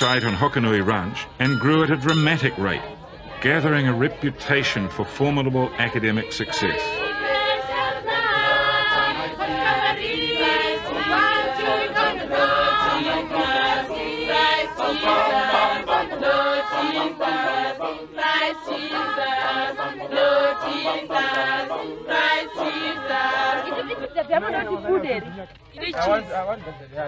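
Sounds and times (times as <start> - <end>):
children's choir singing unaccompanied: 0.0 - 27.0.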